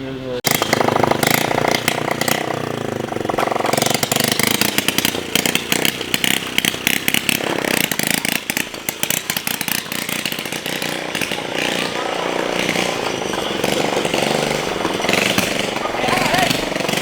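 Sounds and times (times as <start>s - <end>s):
small motorcycle engine running: 0.1s - 17.0s.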